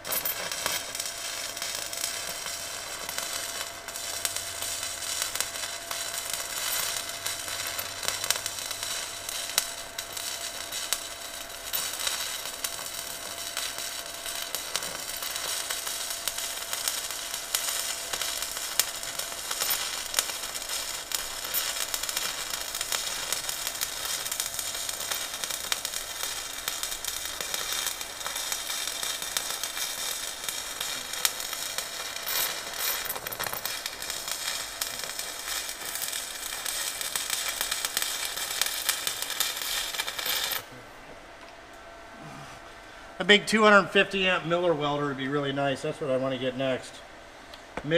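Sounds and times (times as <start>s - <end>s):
arc welding crackle: 0.0s - 40.8s.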